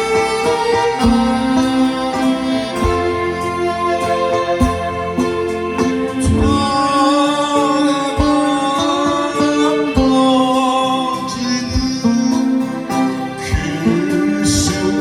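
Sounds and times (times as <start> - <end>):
person singing long notes: 0.0 - 12.5
guitar: 0.0 - 15.0.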